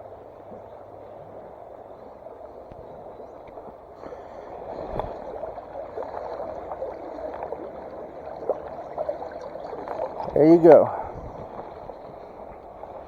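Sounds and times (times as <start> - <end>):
water gurgling: 0.0 - 13.0.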